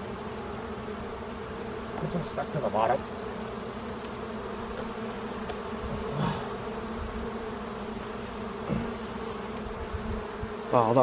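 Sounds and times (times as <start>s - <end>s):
bees buzzing in hive: 0.0s - 11.0s.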